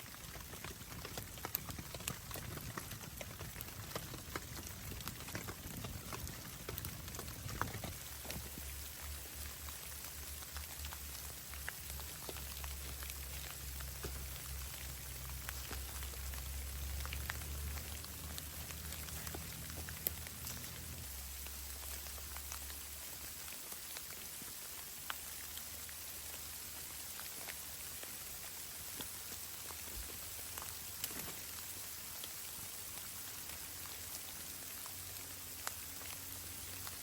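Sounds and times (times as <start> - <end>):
patter of falling precipitation: 0.0 - 37.0.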